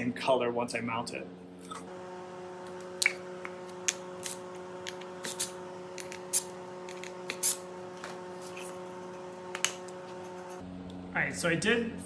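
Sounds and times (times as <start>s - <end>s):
steady low hum: 1.3s - 12.0s.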